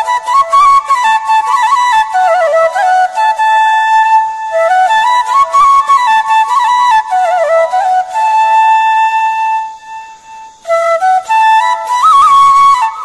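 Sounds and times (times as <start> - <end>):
solo flute melody: 0.0 - 13.0.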